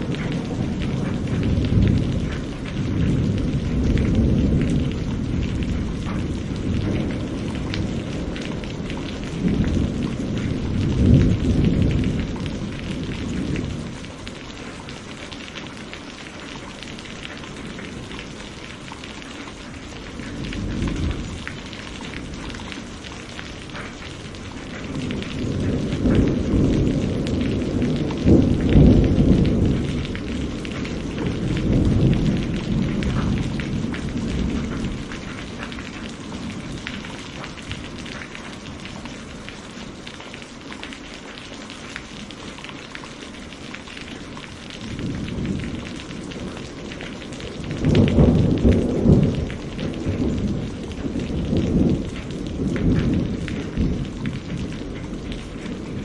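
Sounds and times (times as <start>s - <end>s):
rolling thunder: 0.0s - 14.9s, 19.6s - 39.6s, 44.7s - 56.0s
steady rain: 0.0s - 56.0s.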